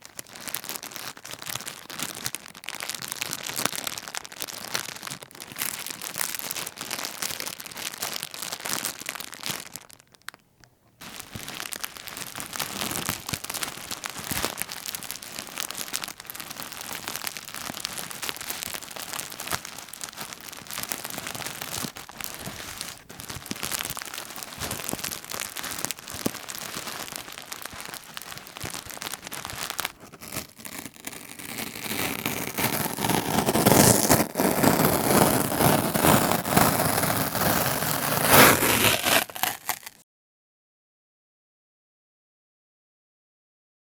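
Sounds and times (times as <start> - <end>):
plastic sheet crinkling: 0.0 - 10.4, 11.0 - 40.0.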